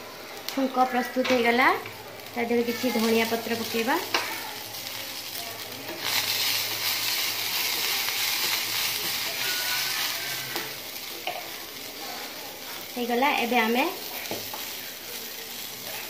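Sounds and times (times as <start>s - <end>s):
spices sizzling in hot oil: 0.0s - 16.0s.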